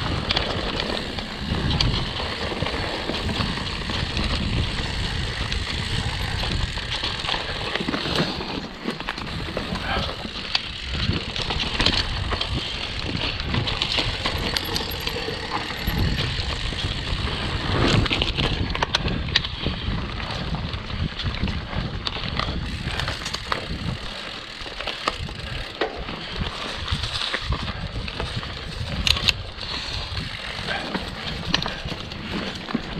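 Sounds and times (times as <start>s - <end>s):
bike clicks and knocks: 0.0s - 32.9s.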